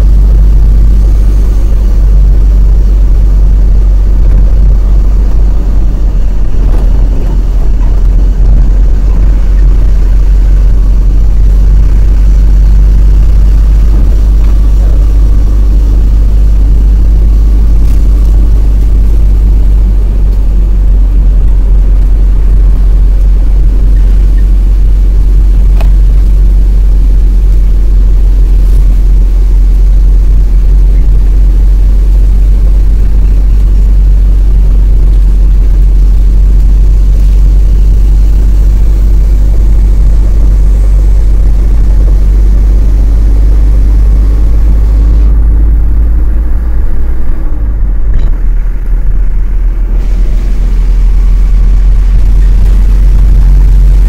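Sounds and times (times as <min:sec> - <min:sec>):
lorry engine low rumble: 0:00.0 - 0:54.0.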